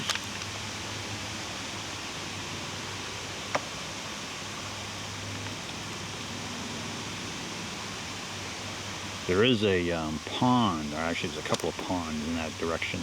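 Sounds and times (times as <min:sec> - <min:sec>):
wind hiss: 0:00.0 - 0:13.0.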